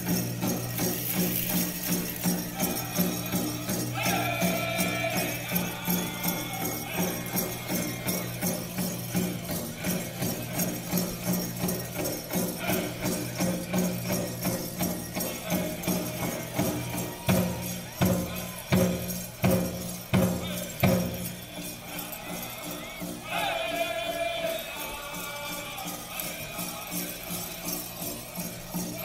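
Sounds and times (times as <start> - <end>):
bells jingling: 0.0 - 29.0
group singing: 0.1 - 19.6, 20.2 - 29.0.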